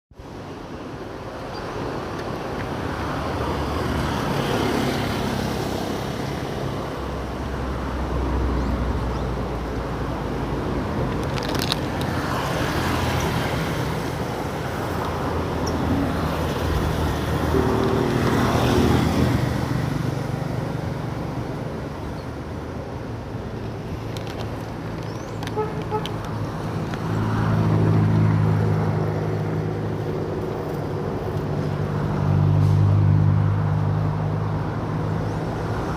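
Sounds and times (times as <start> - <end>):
rushing wind-like noise: 0.2 - 35.9.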